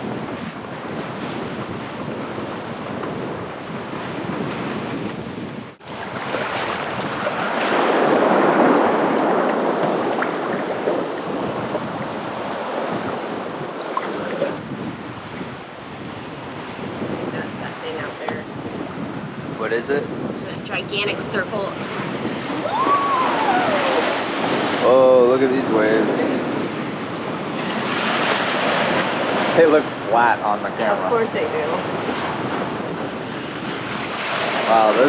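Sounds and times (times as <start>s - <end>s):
water splashing along hull: 0.0s - 35.0s
wind buffeting microphone: 0.0s - 35.0s.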